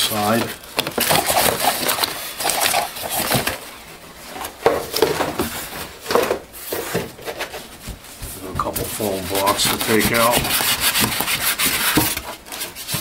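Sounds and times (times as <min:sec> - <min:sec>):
cardboard rustling and scraping: 0:00.0 - 0:13.0.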